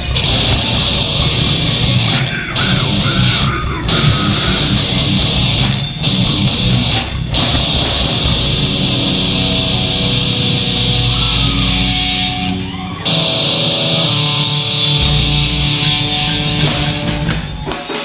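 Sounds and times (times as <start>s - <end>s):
distorted electric guitar: 0.0s - 18.0s
rock band playing: 0.0s - 18.0s.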